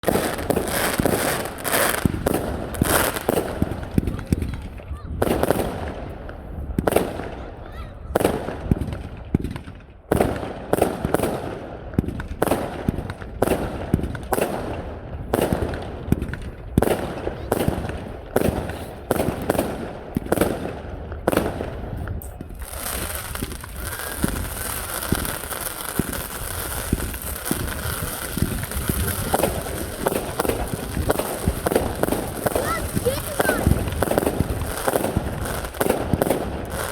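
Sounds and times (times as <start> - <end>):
fireworks banging: 0.0 - 36.9
fireworks crackling with pops: 0.0 - 36.9.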